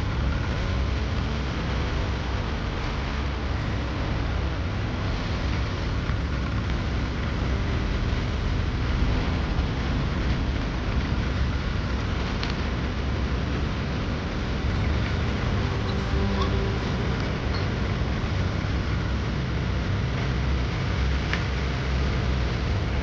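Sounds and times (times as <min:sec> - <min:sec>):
constant rushing noise: 0:00.0 - 0:23.0
tractor engine running: 0:00.0 - 0:23.0.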